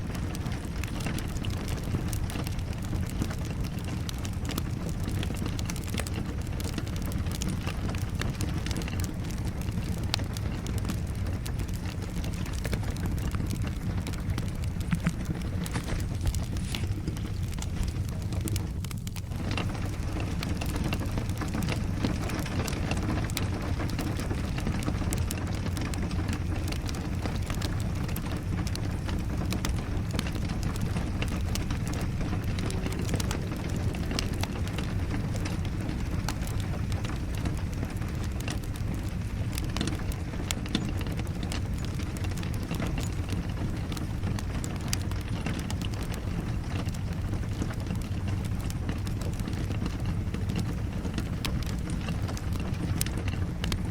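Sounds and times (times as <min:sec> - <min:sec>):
rain rushing: 0:00.0 - 0:53.9
wood fire crackling and popping: 0:00.0 - 0:53.9.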